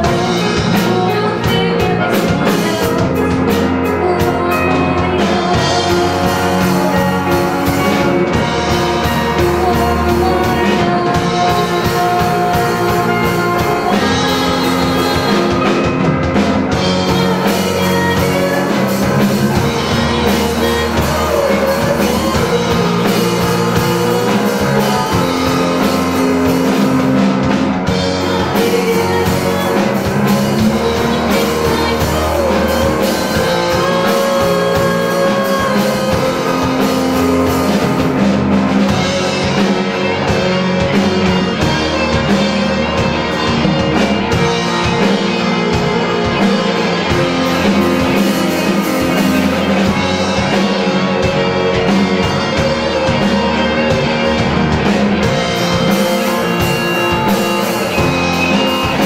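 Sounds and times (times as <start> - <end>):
female singer: 0.0 - 54.5
drum kit: 0.0 - 59.0
electric guitars: 0.0 - 59.0.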